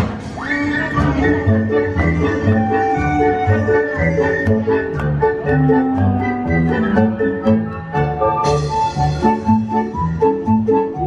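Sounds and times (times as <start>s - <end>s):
bouncing bass: 1.0s - 10.2s
cheerful instrumental music: 1.0s - 11.0s.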